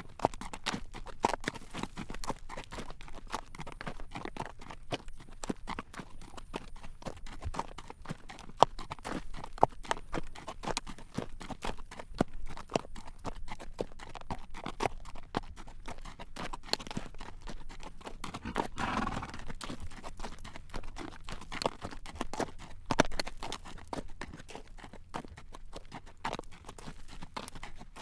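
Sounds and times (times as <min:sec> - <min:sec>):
horse hooves clip-clopping on road: 0:00.0 - 0:28.0.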